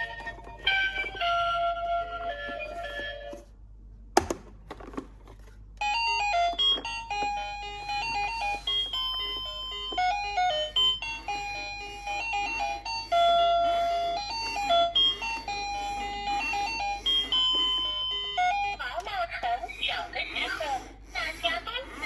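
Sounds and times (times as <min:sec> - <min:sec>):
electronic toy melody: 0:00.0 - 0:03.4, 0:05.8 - 0:20.8.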